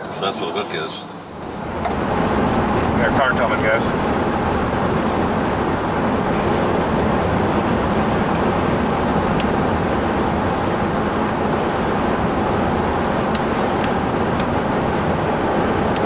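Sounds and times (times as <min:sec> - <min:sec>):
car road noise from inside: 0:00.0 - 0:16.0
wind noise: 0:01.3 - 0:16.0.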